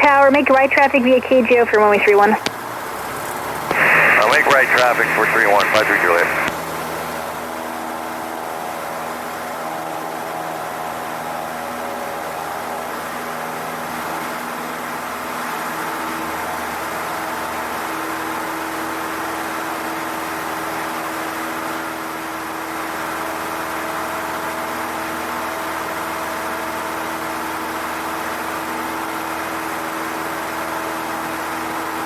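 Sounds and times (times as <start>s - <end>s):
light aircraft engine droning: 0.0s - 32.0s.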